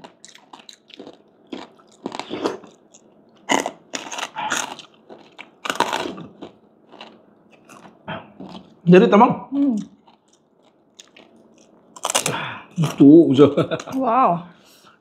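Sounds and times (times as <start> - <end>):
chewing crispy pork skin: 0.0 - 8.8, 9.8 - 13.1.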